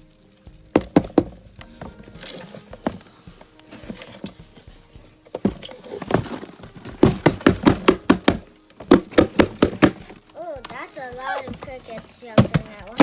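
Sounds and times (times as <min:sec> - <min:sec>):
knocking on cardboard egg carton: 0:00.5 - 0:13.0.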